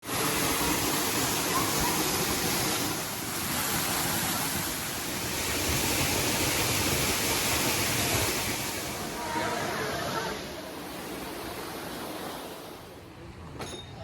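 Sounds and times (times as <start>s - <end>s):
waterfall rushing water: 0.0s - 12.9s.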